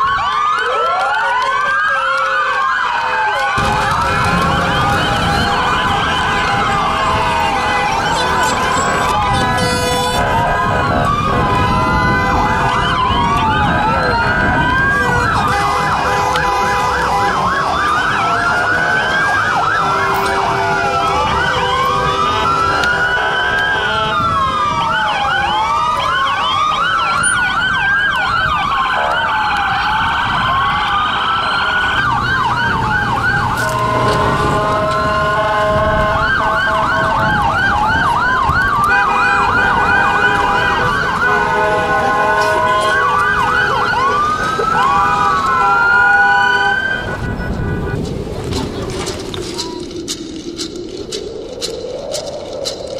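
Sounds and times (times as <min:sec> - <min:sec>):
siren yelp tones: 0:00.0 - 0:48.1
emergency sirens wailing: 0:00.0 - 0:52.9.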